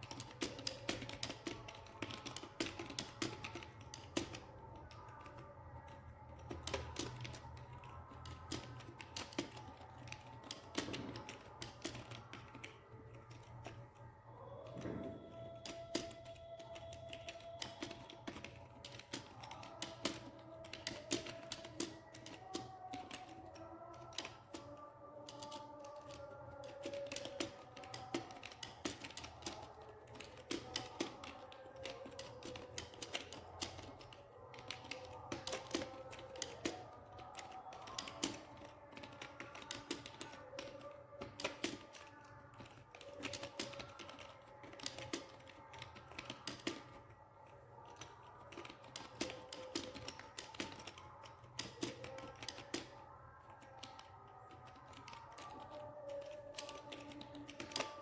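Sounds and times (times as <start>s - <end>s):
typing on a keyboard: 0.0s - 58.0s.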